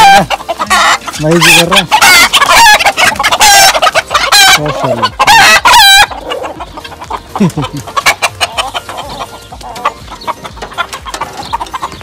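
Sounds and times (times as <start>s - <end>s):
chickens and roosters clucking: 0.0s - 12.0s.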